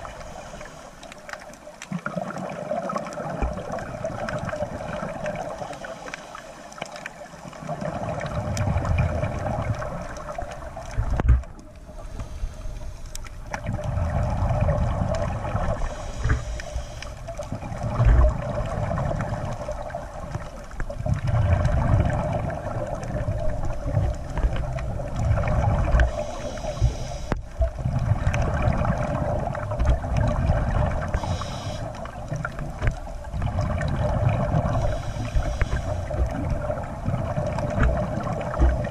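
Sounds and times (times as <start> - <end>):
regulator exhale bubbling underwater: 0.0 - 6.1, 7.4 - 38.9
steady underwater hum: 0.0 - 38.9.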